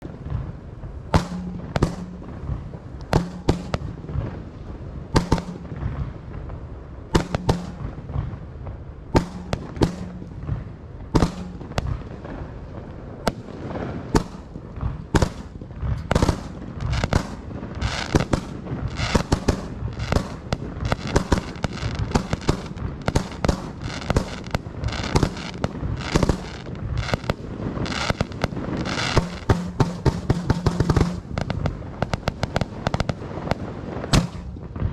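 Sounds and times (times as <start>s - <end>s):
fireworks bangs: 0.0s - 34.9s
fireworks crackling: 0.0s - 34.9s.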